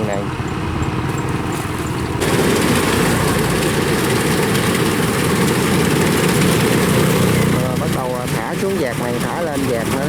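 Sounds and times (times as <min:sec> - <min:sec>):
heavy machinery engine running: 0:00.0 - 0:10.0.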